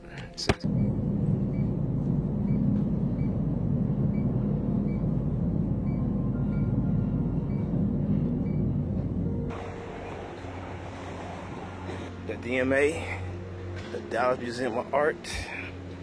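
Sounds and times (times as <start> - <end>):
vehicle rumble in motion: 0.6 - 14.0.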